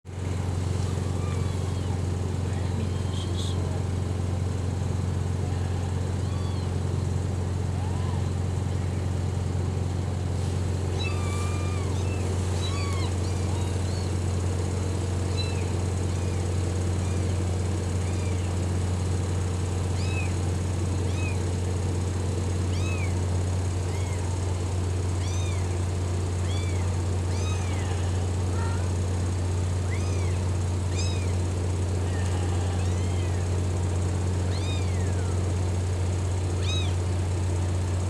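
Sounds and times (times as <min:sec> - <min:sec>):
steady low hum: 0:00.1 - 0:38.0
kittens mewing: 0:00.2 - 0:07.0, 0:10.2 - 0:37.5.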